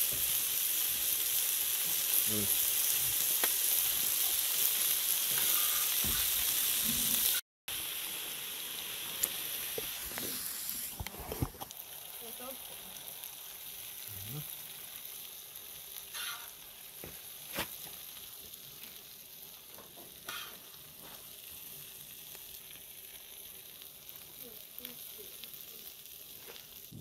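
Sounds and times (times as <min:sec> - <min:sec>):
meat and vegetables sizzling: 0:00.0 - 0:27.0.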